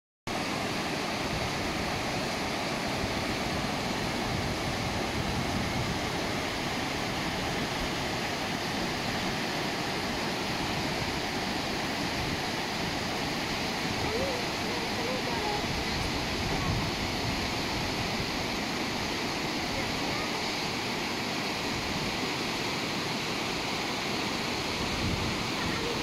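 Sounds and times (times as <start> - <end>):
river rushing over boulders: 0.3 - 26.0.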